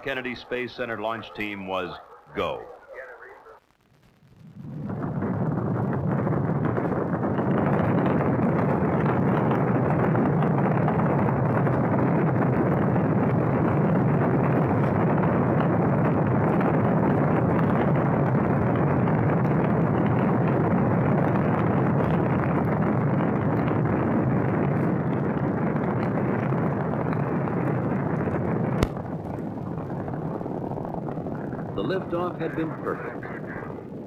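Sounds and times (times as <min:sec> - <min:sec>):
rocket engines roaring: 0:00.0 - 0:34.0.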